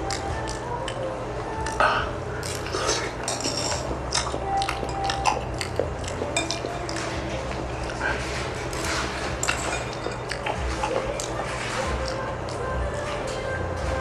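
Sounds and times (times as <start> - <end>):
person chewing: 0.0 - 13.0
utensils clinking against dishes: 0.0 - 14.0.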